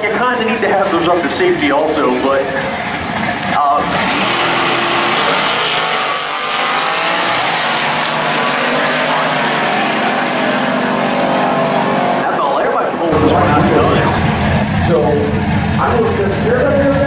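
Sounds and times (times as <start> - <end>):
cars accelerating at full throttle: 0.0 - 17.0.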